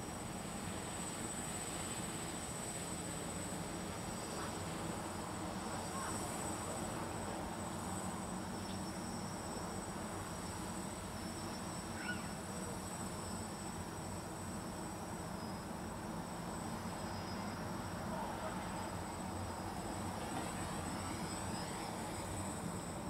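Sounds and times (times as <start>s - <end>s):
distant drone buzzing: 0.1s - 14.8s, 16.5s - 23.0s.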